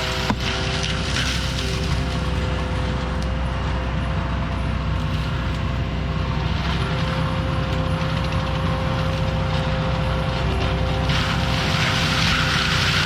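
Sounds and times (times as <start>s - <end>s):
diesel engine drone: 0.0s - 13.0s
mulcher high whine: 0.0s - 13.0s.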